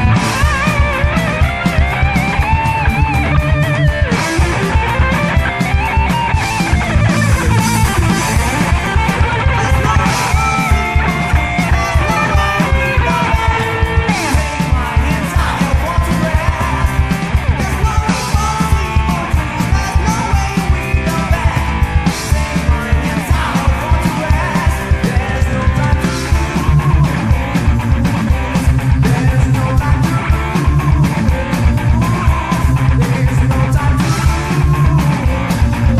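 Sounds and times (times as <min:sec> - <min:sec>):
electric guitar bending pitch: 0:00.0 - 0:35.9
heavy metal band playing: 0:00.0 - 0:35.9.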